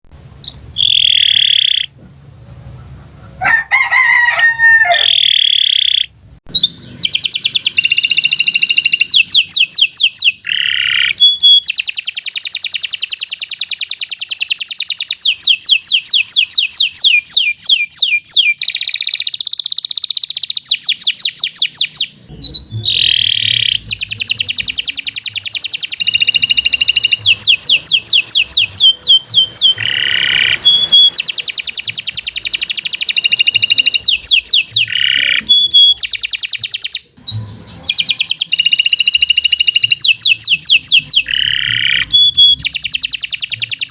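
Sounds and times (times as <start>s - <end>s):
canary singing trills: 0.4s - 2.0s, 4.9s - 43.9s.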